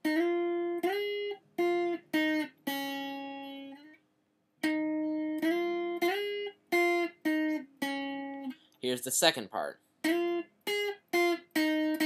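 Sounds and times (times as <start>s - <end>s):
guitar riff with sliding notes: 0.0s - 4.0s, 4.6s - 8.7s, 10.0s - 12.0s.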